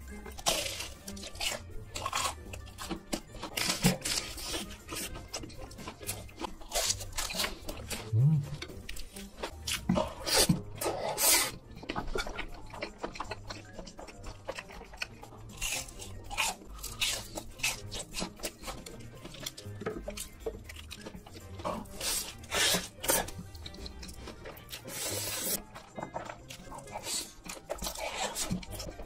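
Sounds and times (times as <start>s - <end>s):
wet chewing and mouth noises: 0.0s - 29.0s
crunching fried food: 0.2s - 29.0s.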